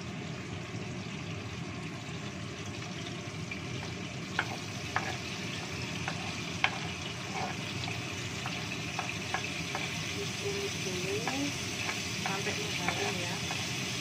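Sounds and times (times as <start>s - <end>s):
spice paste sizzling in oil: 0.0s - 14.0s.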